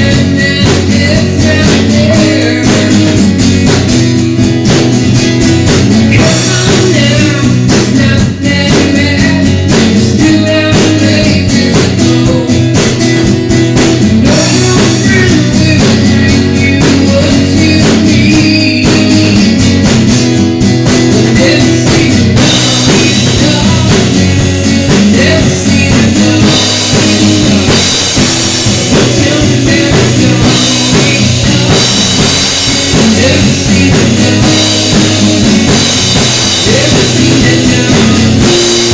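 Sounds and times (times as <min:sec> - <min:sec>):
drum kit with cymbals: 0:00.0 - 0:38.9
rock blues guitar: 0:00.0 - 0:38.9.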